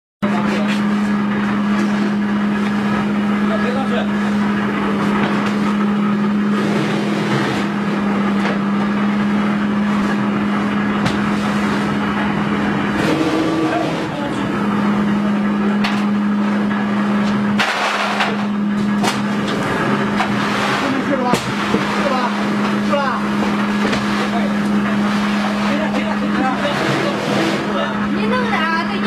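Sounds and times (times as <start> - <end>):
cutting machine humming: 0.2 - 29.0
noisy background: 0.2 - 29.0.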